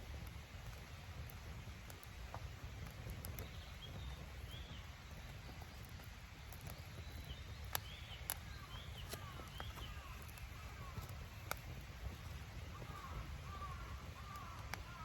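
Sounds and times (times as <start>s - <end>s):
campfire crackling and popping: 0.0s - 15.0s
small birds chirping: 0.6s - 15.0s.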